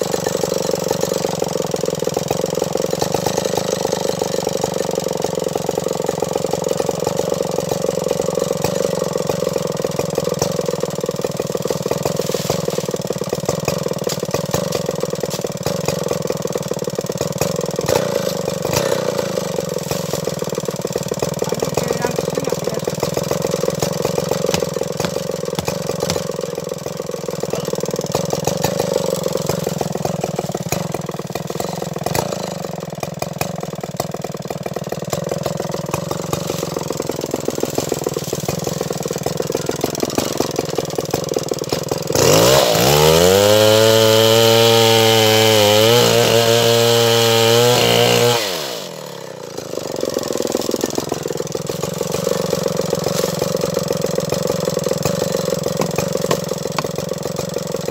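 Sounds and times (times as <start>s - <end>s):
chainsaw sawing wood: 0.0s - 57.9s.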